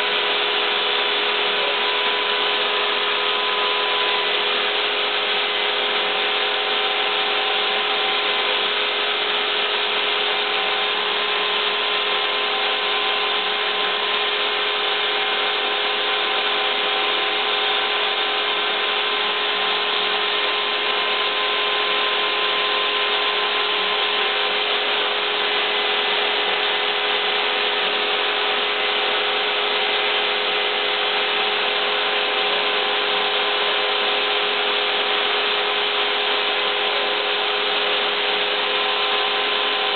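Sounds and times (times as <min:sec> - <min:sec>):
router motor whine: 0:00.0 - 0:39.9.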